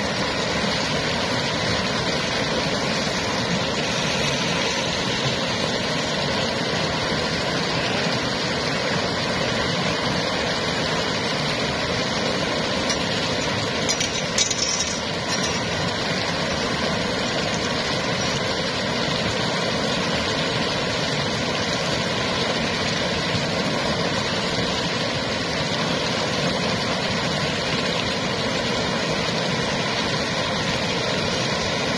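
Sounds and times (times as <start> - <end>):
water rushing over weir: 0.0 - 31.9.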